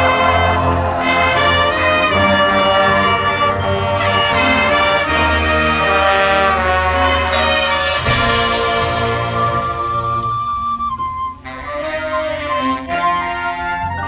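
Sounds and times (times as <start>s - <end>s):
sustained low brass notes: 0.0s - 14.0s
trumpets and trombones: 0.0s - 14.0s.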